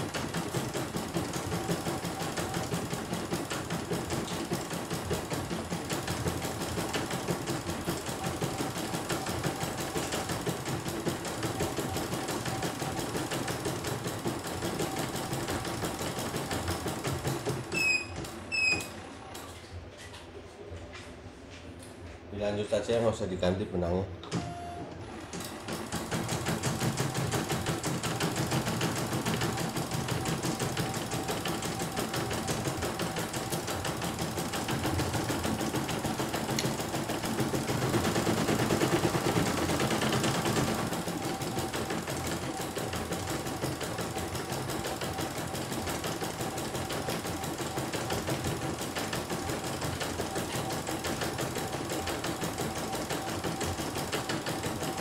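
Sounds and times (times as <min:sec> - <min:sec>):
embroidery machine stitching: 0:00.0 - 0:18.9, 0:25.2 - 0:55.0.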